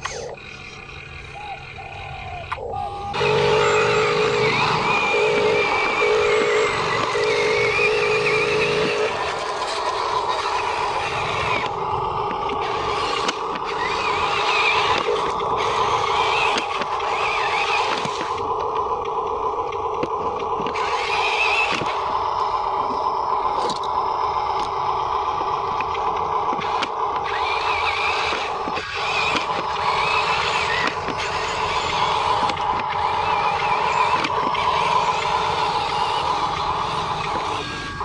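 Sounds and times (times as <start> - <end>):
electric motor and gearbox whining: 0.0 - 38.0.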